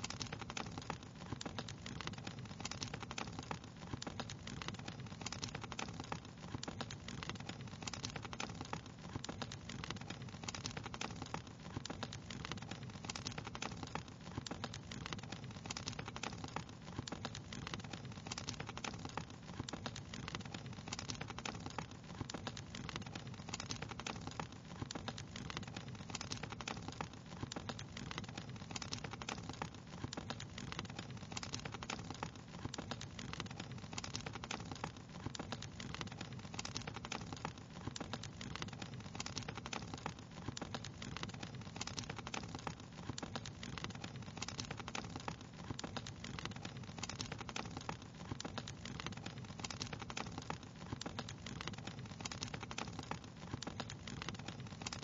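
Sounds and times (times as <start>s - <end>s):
wood fire crackling: 0.0s - 55.0s
low rumble of burning: 0.1s - 55.0s.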